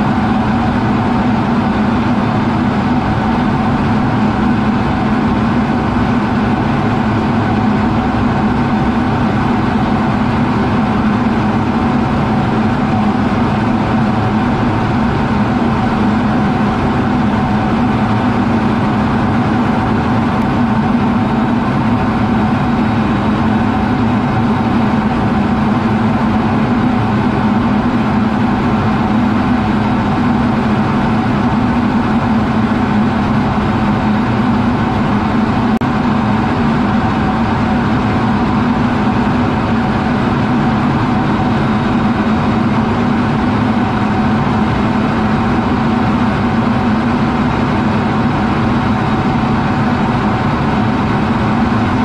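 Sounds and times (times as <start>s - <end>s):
jet cockpit drone: 0.0s - 52.0s.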